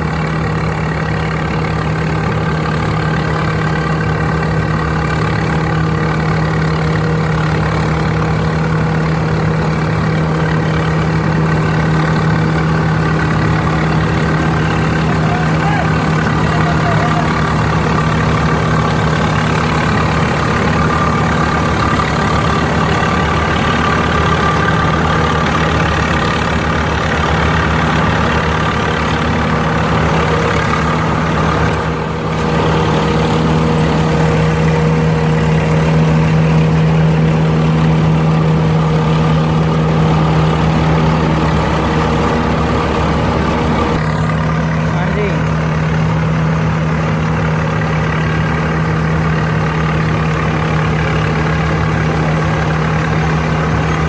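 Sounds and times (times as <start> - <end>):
combine harvester diesel engine drone: 0.0 - 54.0.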